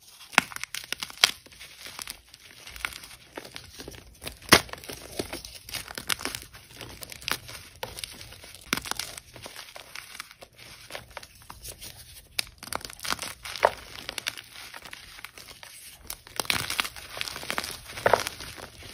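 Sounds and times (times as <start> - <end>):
chalk blocks crunching and cracking: 0.0 - 18.9.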